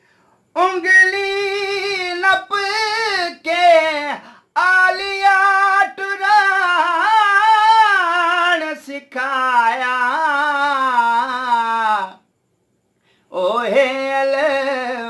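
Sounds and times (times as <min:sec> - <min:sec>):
man singing unaccompanied: 0:00.5 - 0:12.3, 0:13.3 - 0:15.0.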